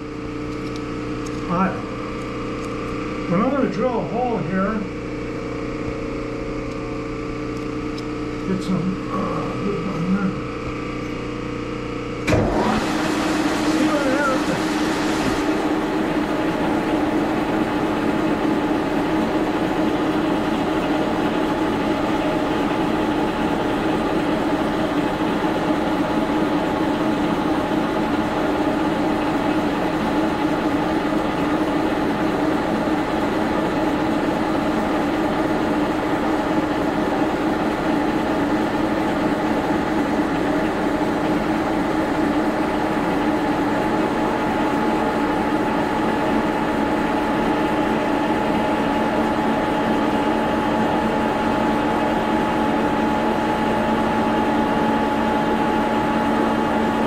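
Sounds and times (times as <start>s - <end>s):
milling machine humming: 0.0s - 57.0s.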